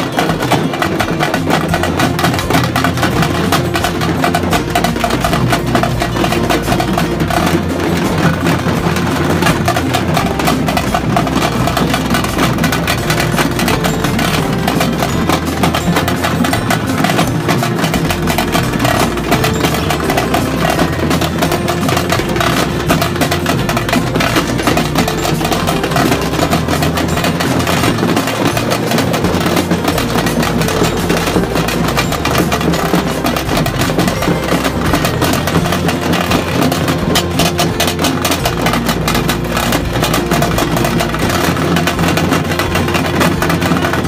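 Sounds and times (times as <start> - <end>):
festive music with fast drumming: 0.0 - 44.0.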